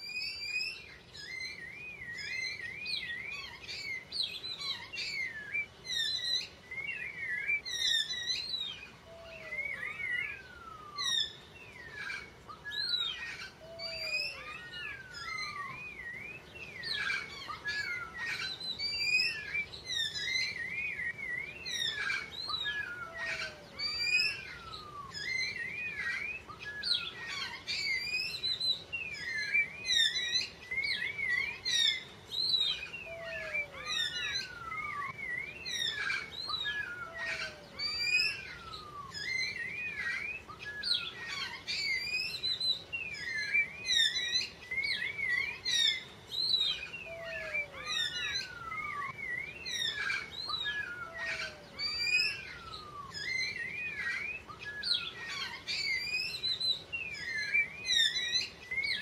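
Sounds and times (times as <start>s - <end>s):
birds chirping and whistling: 0.0s - 59.0s
low downward-sliding bird call: 0.0s - 59.0s.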